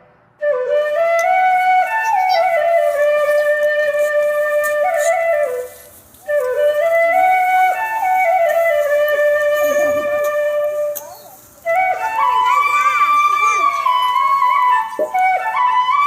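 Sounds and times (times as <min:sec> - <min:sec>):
solo flute melody: 0:00.4 - 0:16.0.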